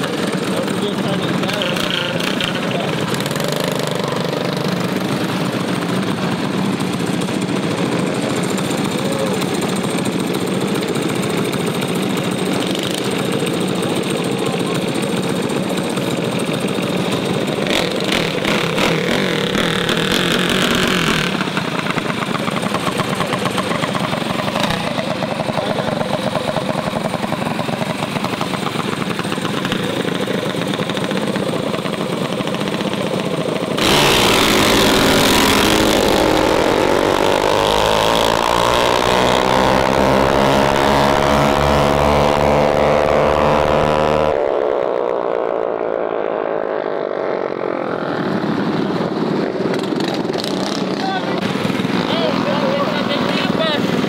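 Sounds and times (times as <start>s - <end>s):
mini bike engines revving: 0.0s - 54.0s.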